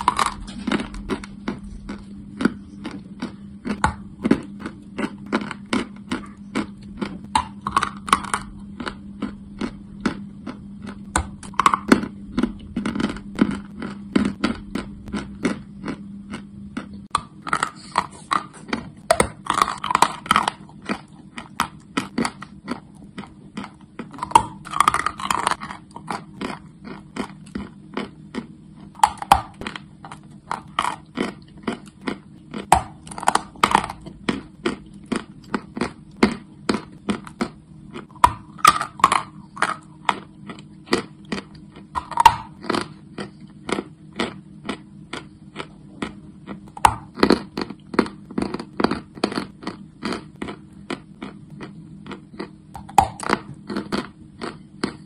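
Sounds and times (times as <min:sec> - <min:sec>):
chalk crunching while chewed: 0:00.0 - 0:55.0
faint low hum: 0:00.0 - 0:55.0.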